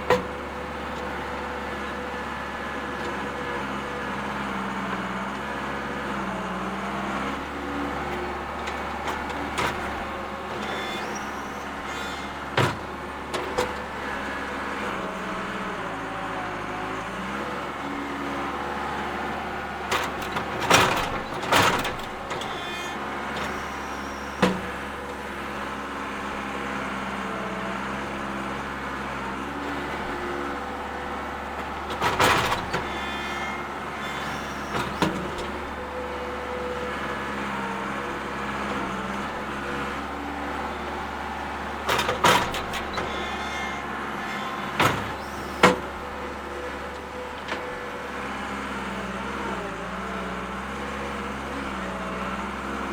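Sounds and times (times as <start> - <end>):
loader engine running: 0.0 - 52.9.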